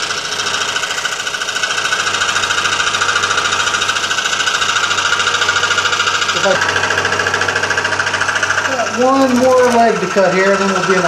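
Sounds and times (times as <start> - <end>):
scroll saw cutting sheet metal: 0.0 - 11.0.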